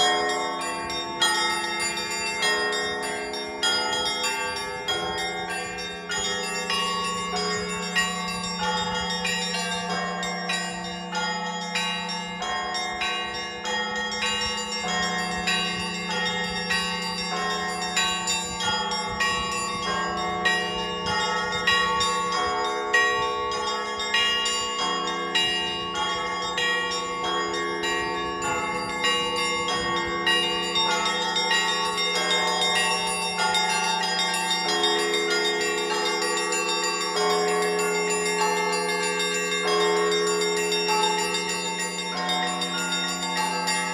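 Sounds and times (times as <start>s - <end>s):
large low bell humming: 0.0s - 43.9s
small bells rung rhythmically: 0.0s - 43.9s.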